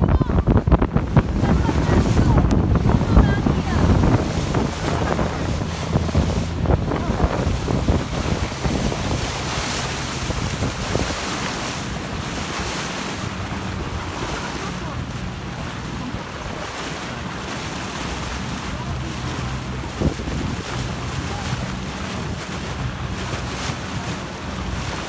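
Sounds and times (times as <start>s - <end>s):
boat engine low hum: 0.0s - 25.0s
water rushing past boat hull: 0.0s - 25.0s
wind buffeting microphone: 0.0s - 25.0s.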